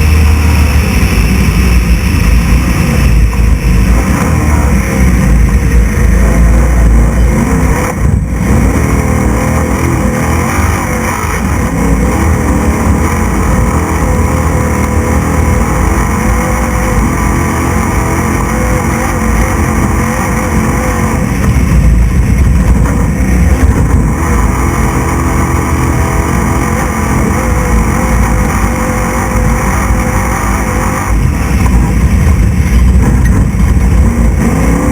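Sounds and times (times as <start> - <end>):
road and wind noise: 0.0 - 34.9
truck engine running hard: 0.0 - 34.9.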